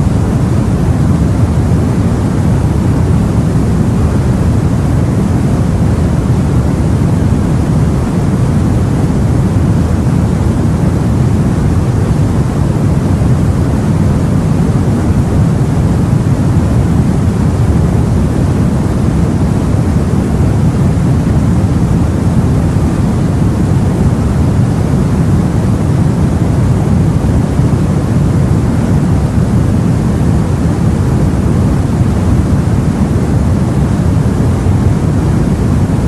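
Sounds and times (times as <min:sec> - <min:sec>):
deep rumbling sea: 0:00.0 - 0:36.0.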